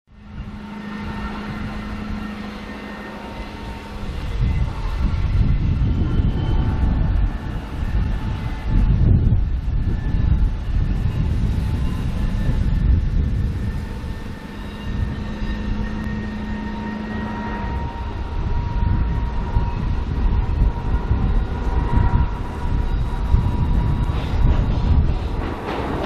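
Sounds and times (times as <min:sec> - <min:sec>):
locomotive rumble: 0:00.1 - 0:26.0
steady low hum: 0:00.1 - 0:26.0
thin high whine: 0:00.1 - 0:26.0.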